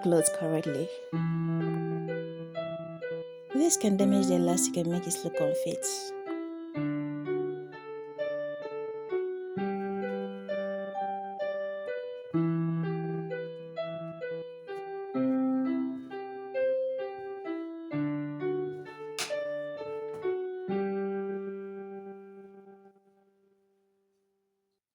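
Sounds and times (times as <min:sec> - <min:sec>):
background piano music: 0:00.0 - 0:23.4.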